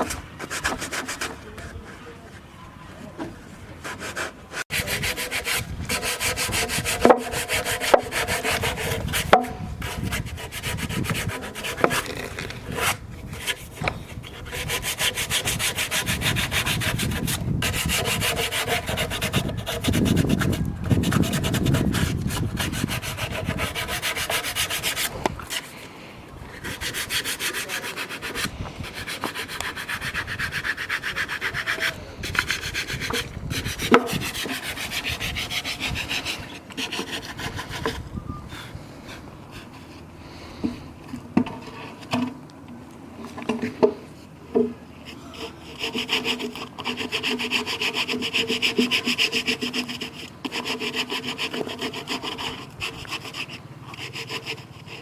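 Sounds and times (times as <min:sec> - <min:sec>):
tool scraping wood: 0:00.0 - 0:02.4, 0:03.2 - 0:25.9, 0:26.5 - 0:42.4, 0:43.2 - 0:55.0.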